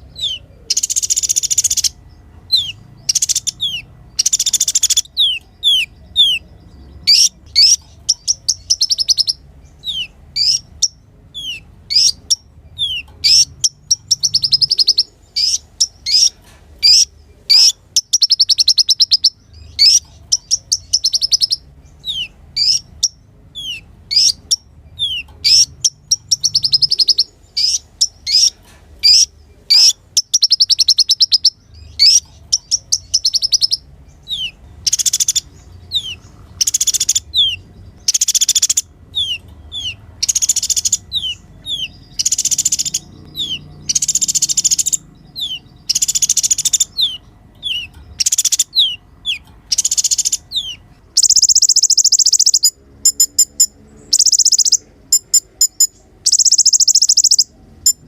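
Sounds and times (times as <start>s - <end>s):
bird chirping and trilling: 0.0s - 58.0s.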